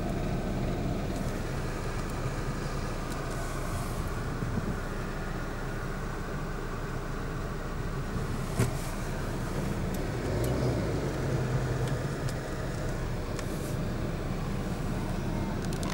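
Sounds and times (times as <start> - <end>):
car road rumble: 0.0 - 15.9
truck engine drone: 0.0 - 15.9.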